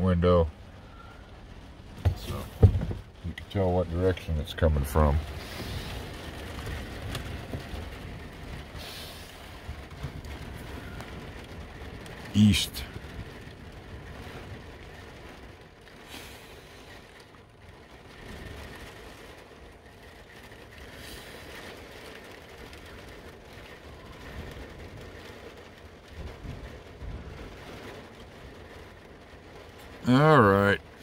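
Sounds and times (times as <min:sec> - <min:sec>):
rain and wind rumble: 0:00.0 - 0:31.0.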